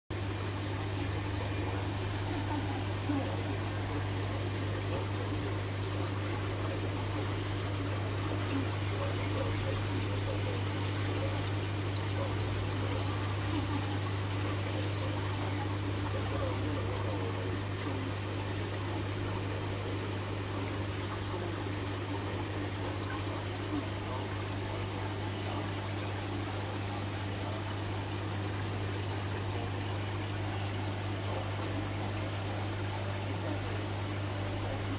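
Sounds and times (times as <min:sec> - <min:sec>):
aquarium water trickling: 0:00.1 - 0:34.9.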